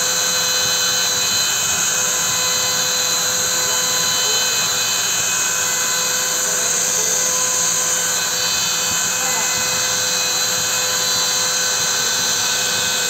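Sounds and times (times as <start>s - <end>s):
bit cutting into wood: 0.0s - 13.0s
router spindle whine: 0.0s - 13.0s.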